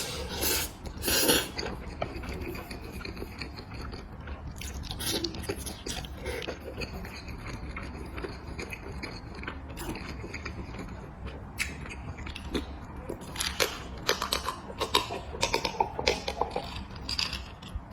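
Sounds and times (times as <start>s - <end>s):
person chewing and biting food: 0.0s - 17.9s.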